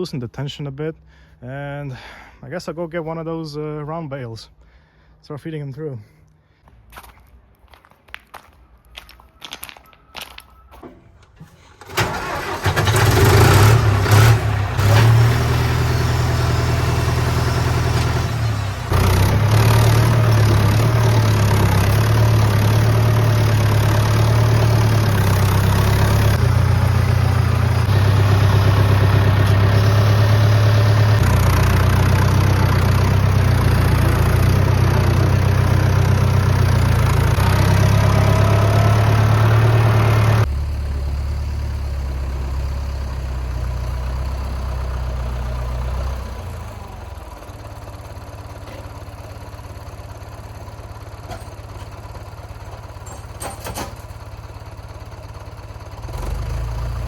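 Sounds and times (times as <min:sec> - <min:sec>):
diesel tractor engine running: 0:09.4 - 0:57.0.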